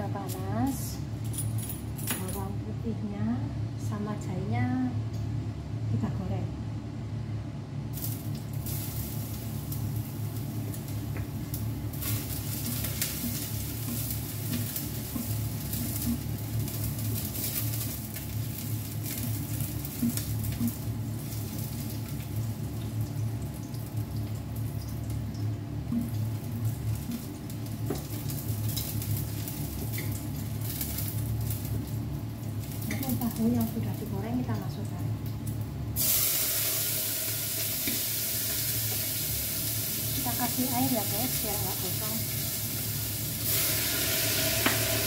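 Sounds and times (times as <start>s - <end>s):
steady low hum: 0.0s - 45.0s
garlic sizzling in hot oil: 7.9s - 45.0s.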